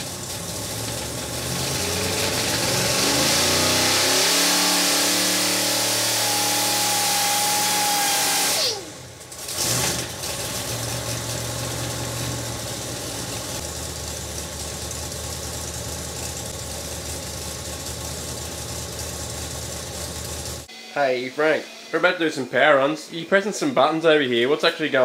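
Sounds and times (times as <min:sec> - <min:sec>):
engine whining and idling: 0:00.0 - 0:22.7.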